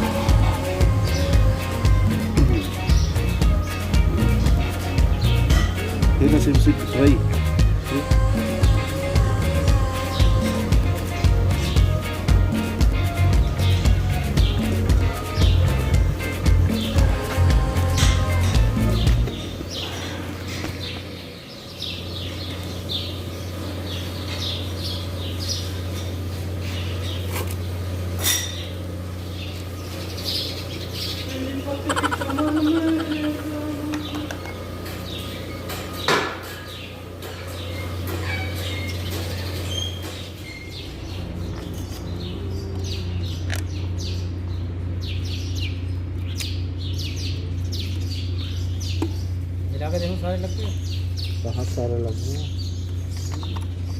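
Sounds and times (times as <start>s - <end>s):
birds chirping: 0.0s - 53.9s
steady low hum: 0.0s - 53.9s.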